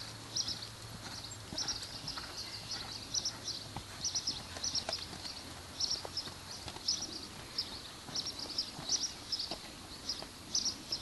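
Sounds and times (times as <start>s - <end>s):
hoofbeats on sand: 0.0s - 11.0s.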